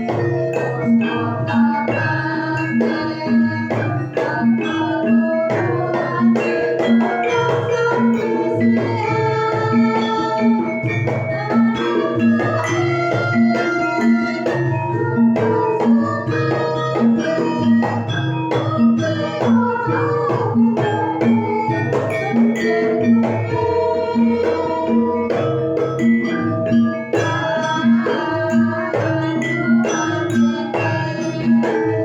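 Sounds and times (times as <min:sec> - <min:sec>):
gamelan ensemble playing: 0:00.0 - 0:32.0.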